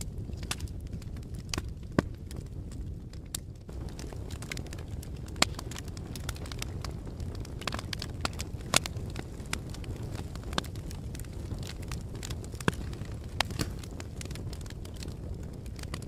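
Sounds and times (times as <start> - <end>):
fire crackling: 0.0 - 16.0
sharp pops and snaps of fire: 0.0 - 16.0.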